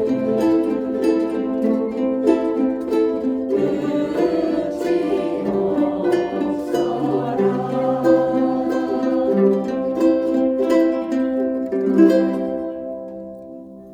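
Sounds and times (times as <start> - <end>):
ukulele ensemble playing: 0.0 - 13.9.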